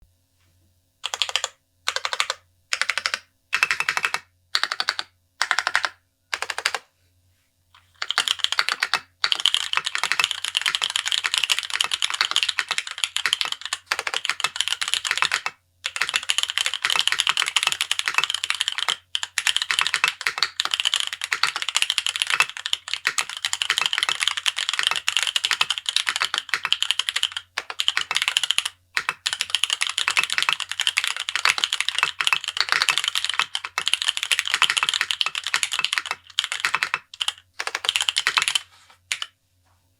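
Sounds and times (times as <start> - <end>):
mechanical keyboard typing: 1.0 - 6.8, 7.8 - 39.3.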